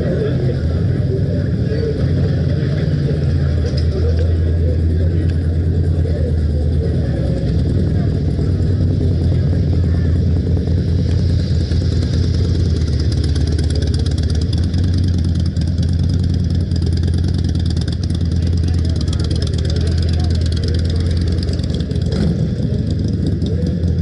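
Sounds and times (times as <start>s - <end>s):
crowd chatter: 0.0s - 24.0s
motorcycle engines rumbling: 0.0s - 24.0s.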